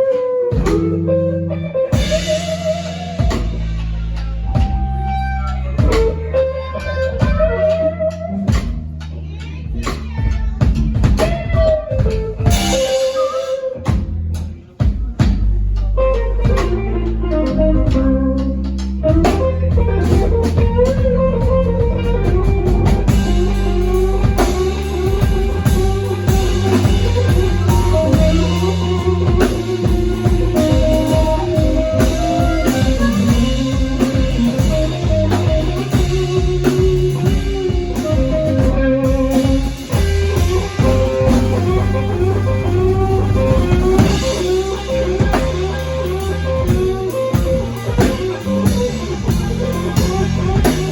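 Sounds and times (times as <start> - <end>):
bass: 0.0 - 50.9
blues guitar lines: 0.0 - 50.9
drum kit: 0.0 - 50.9.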